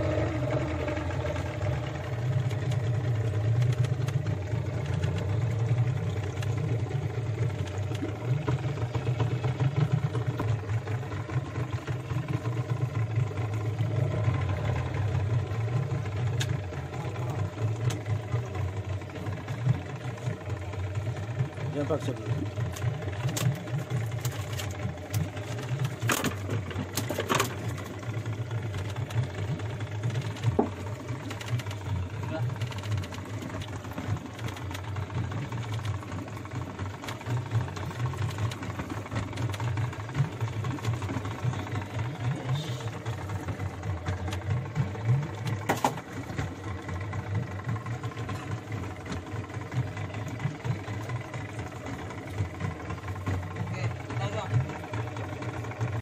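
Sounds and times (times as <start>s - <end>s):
outboard motor idling: 0.0s - 56.0s.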